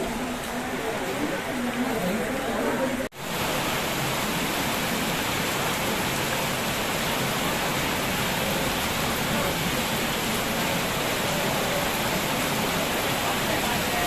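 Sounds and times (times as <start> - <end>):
heavy rain splashing on water: 0.0 - 14.0.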